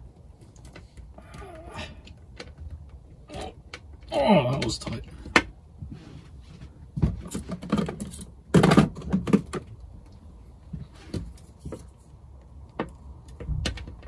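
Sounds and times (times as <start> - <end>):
hands handling cables and plugs: 0.0 - 14.0.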